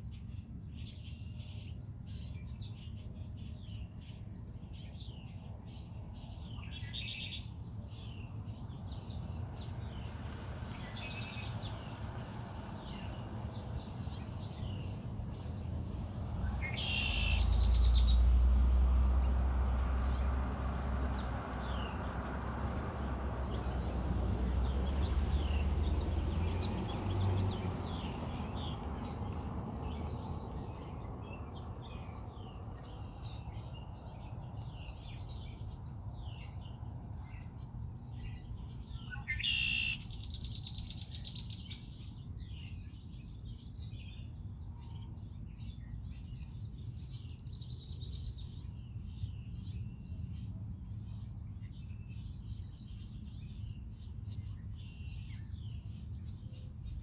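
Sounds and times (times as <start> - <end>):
blackbirds chirping: 0.0 - 57.0.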